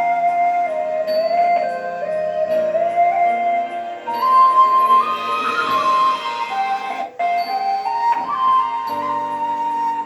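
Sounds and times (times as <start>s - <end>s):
bamboo flute melody: 0.0s - 10.0s
low sustained accompaniment: 0.0s - 10.0s.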